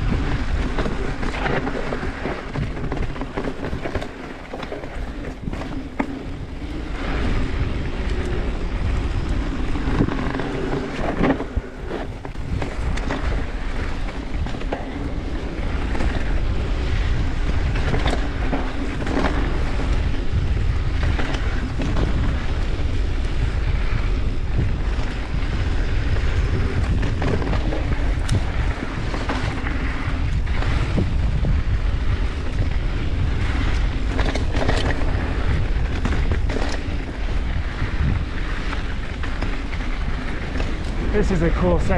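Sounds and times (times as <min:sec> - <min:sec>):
bike clacking and rattling over rocks: 0:00.0 - 0:41.9
low rumble of bike tyres: 0:00.0 - 0:41.9
wind buffeting microphone: 0:00.0 - 0:41.9.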